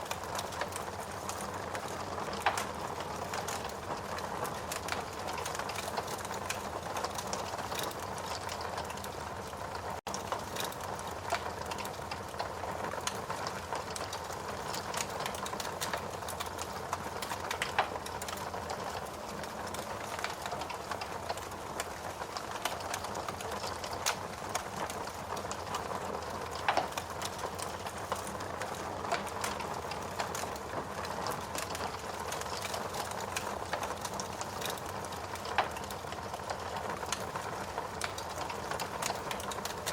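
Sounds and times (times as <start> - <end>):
logs burning with crackles: 0.0 - 39.9
fire pops: 0.1 - 9.2, 10.1 - 39.9.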